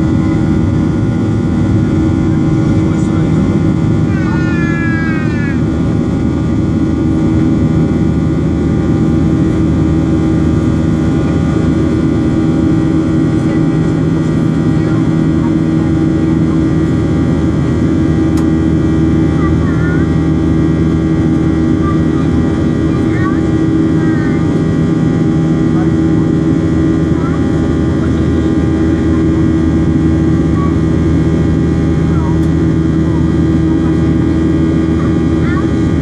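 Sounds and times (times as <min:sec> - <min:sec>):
airplane cabin engine noise: 0:00.0 - 0:36.0.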